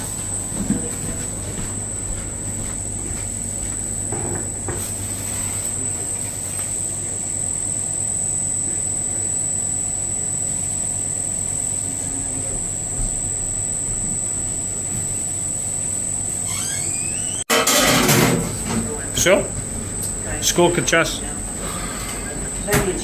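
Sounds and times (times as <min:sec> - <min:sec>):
constant high whine: 0:00.0 - 0:23.0
machinery low hum: 0:00.0 - 0:23.0.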